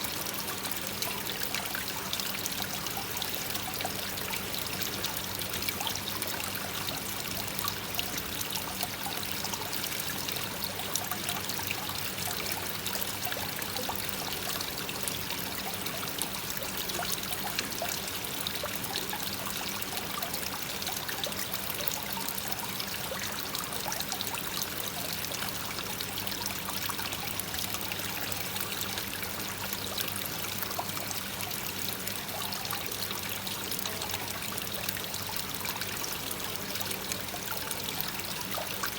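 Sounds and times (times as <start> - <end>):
waterfall pouring into pond: 0.0 - 38.9.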